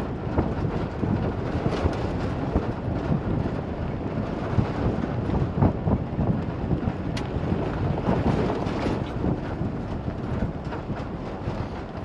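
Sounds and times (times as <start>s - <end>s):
rumbling and rattling: 0.0s - 12.0s
wind buffeting microphone: 0.0s - 12.0s.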